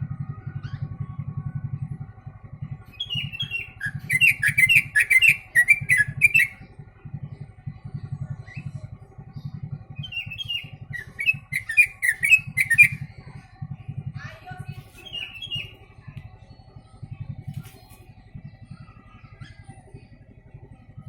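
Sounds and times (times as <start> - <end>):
bulbul singing: 0.0 - 21.0
low pulsing rumble: 0.0 - 21.0.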